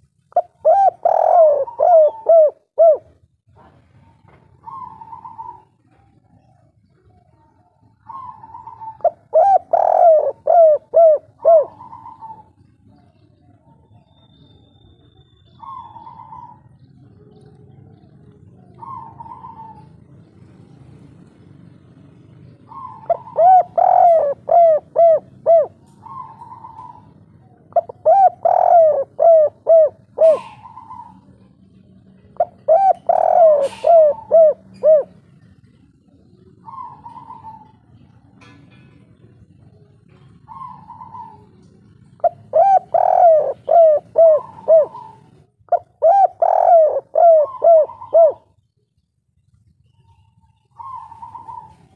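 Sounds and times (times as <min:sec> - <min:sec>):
dove cooing: 0:00.0 - 0:21.4, 0:22.0 - 0:49.0, 0:49.8 - 0:51.9.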